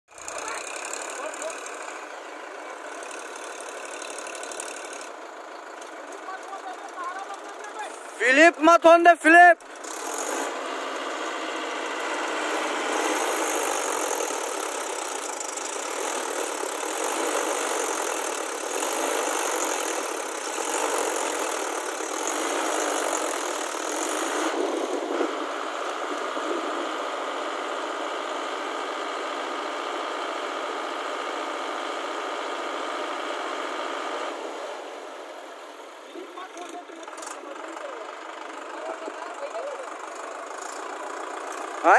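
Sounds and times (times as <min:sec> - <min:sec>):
tractor engine running: 0:00.1 - 0:41.9.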